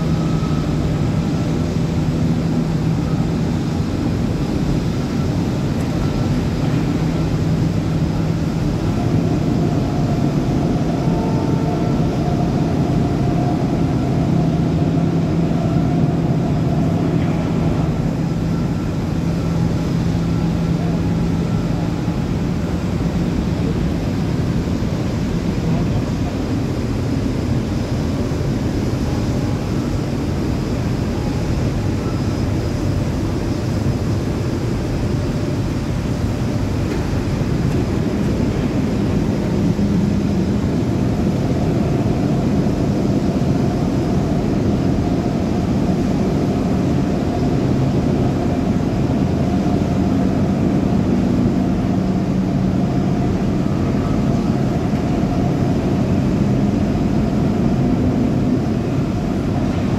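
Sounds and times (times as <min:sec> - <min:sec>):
loud industrial rumble: 0:00.0 - 0:59.9.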